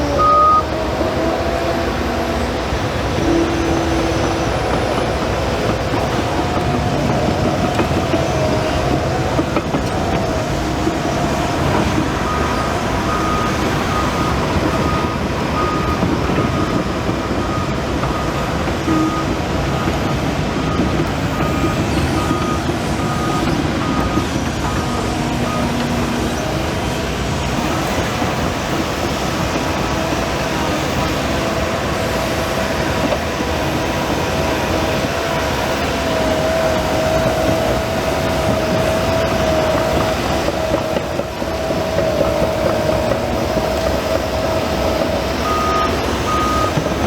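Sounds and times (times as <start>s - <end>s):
reversing alarm beeps: 0.0s - 27.0s, 27.6s - 47.0s
bulldozer diesel engine running: 0.0s - 47.0s.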